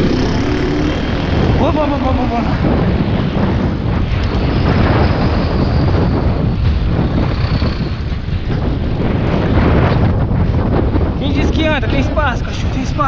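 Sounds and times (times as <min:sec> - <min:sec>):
city traffic: 0:00.0 - 0:12.6
wind buffeting microphone: 0:00.0 - 0:13.0.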